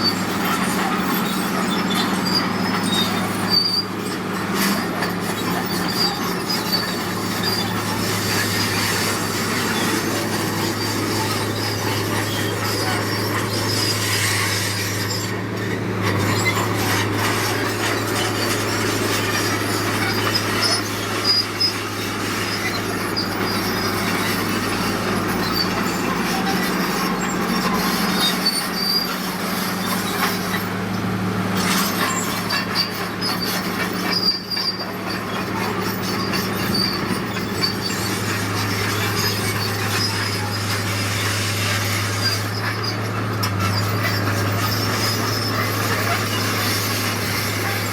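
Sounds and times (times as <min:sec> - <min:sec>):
diesel machinery engine running: 0:00.0 - 0:47.9
metallic squealing and clanking: 0:00.0 - 0:47.9.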